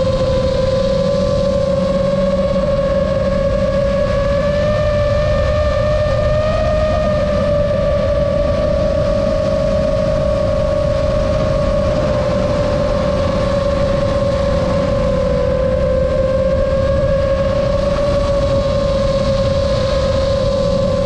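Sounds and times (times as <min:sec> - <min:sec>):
drone propellers whining: 0:00.0 - 0:21.0
rushing air rumble: 0:00.0 - 0:21.0.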